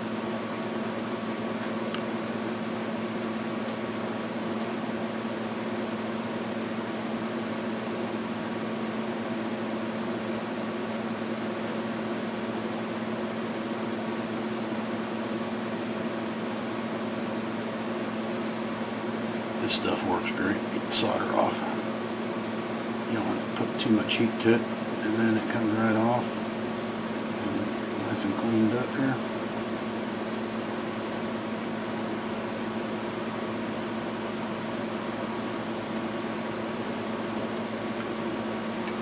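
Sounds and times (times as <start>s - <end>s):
electric fan hum: 0.0s - 39.0s.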